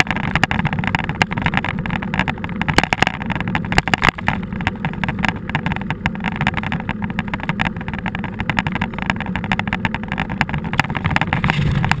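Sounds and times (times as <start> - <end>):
wind and tyres rumble: 0.0 - 12.0.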